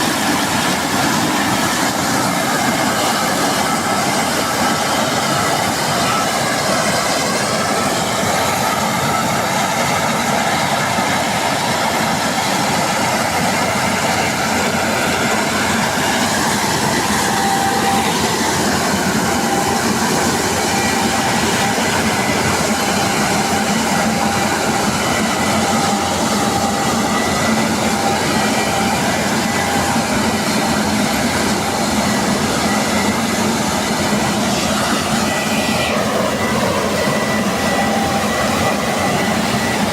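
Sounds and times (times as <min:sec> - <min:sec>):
combine harvester running: 0:00.0 - 0:39.9
faint mechanical whines: 0:00.0 - 0:39.9.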